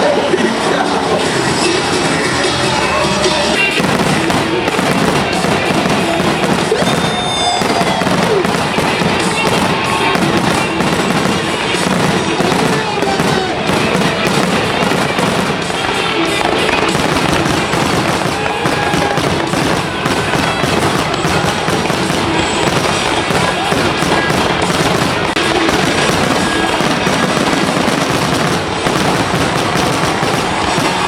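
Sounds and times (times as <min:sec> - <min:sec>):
fireworks crackling and banging: 0:00.0 - 0:31.0
music: 0:00.0 - 0:31.0.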